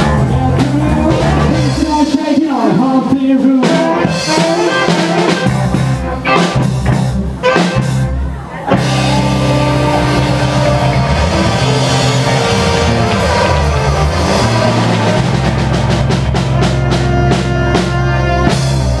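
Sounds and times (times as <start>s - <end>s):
drum kit: 0.0s - 19.0s
electric bass: 0.0s - 19.0s
saxophone: 3.6s - 19.0s.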